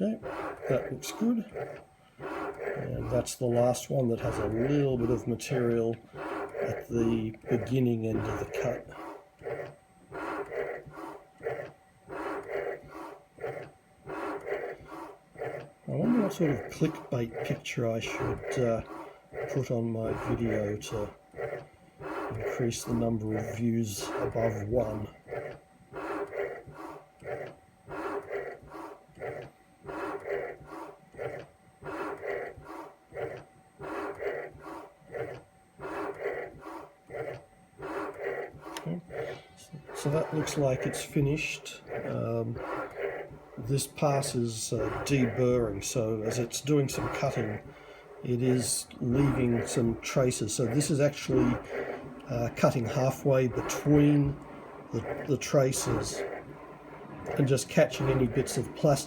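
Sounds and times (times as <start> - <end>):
mill cutter rasping: 0.0 - 59.0
rhythmic heavy panting: 0.0 - 59.0.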